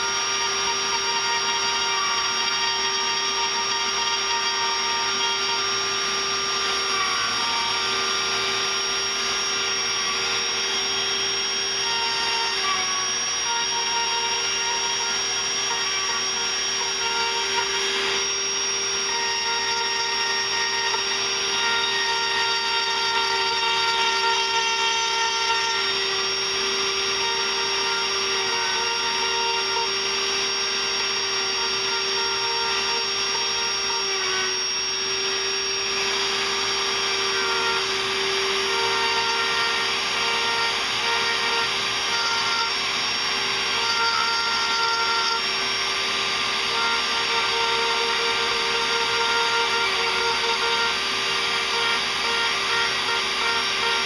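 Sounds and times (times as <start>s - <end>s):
rotary tool whining carving wood: 0.0s - 54.0s.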